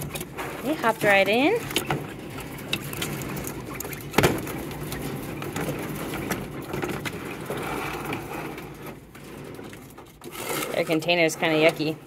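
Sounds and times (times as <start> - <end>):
quail pecking and scuffling: 0.0 - 11.9.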